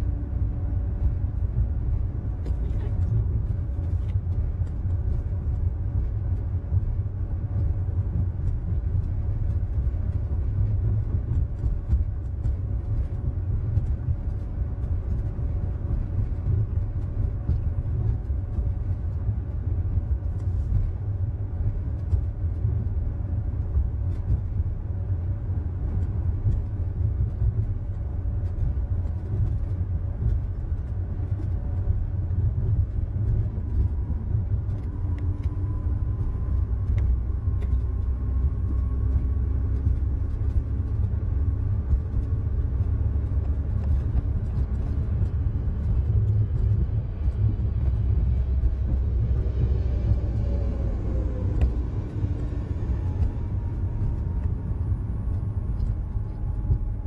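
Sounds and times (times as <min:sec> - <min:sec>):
transit pod rumble on tyres: 0:00.0 - 0:57.0.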